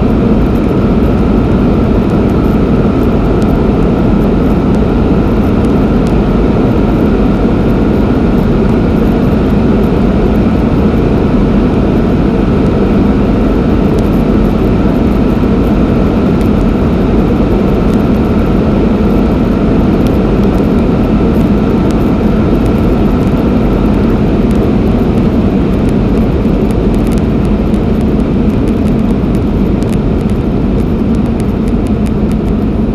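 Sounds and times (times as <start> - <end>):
car roaring at high speed: 0.0 - 32.9.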